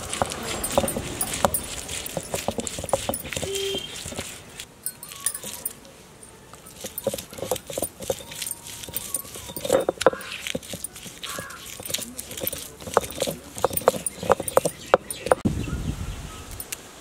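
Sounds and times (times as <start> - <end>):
stone roller grinding on slab: 0.0 - 5.8, 6.5 - 15.4.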